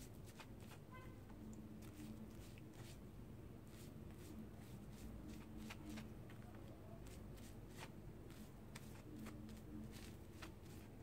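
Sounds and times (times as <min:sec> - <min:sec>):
soft brushing and rustling strokes: 0:01.8 - 0:11.0.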